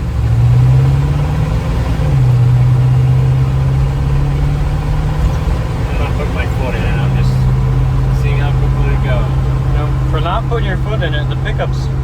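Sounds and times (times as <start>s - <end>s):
pickup engine accelerating: 0.0s - 12.0s
transmission upshifting: 0.0s - 12.0s.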